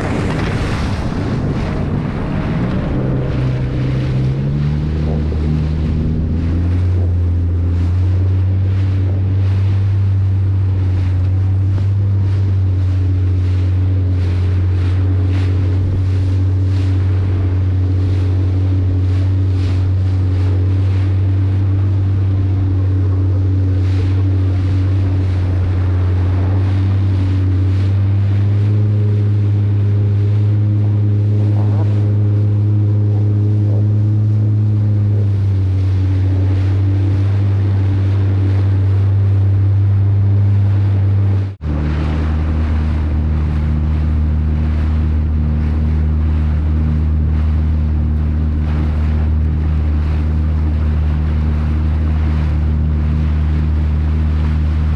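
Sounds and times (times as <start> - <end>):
motorboat engine running: 0.0 - 54.9
water noise: 0.0 - 54.9
wind on microphone: 0.0 - 54.9.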